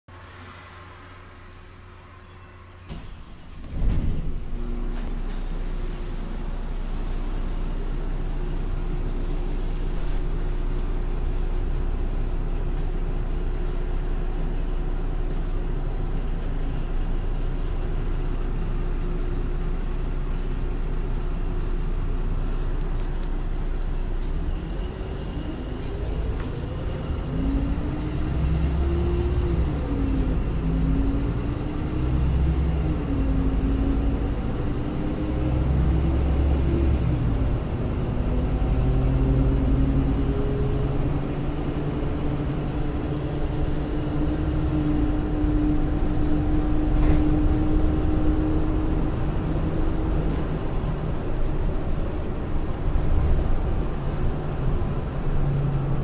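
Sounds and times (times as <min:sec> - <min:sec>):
bus diesel engine: 0:00.1 - 0:56.0.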